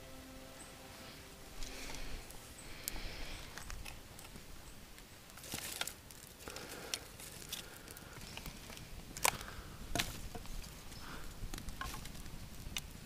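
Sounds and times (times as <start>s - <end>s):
twigs crackling in campfire: 1.0s - 13.0s.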